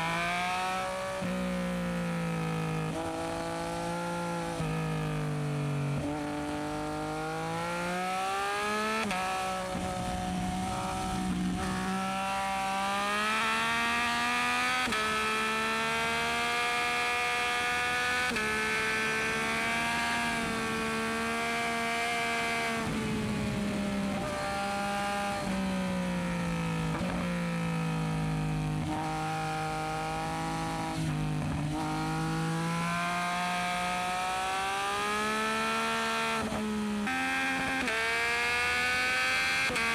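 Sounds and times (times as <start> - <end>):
motorcycle engine shifting gears: 0.1 - 39.9.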